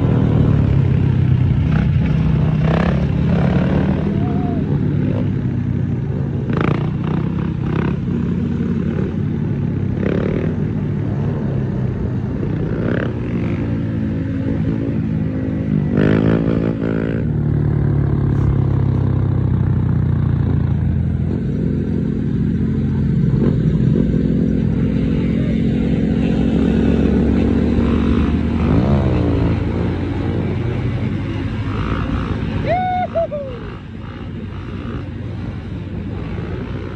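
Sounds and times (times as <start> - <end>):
motorcycle engines running: 0.0 - 36.9.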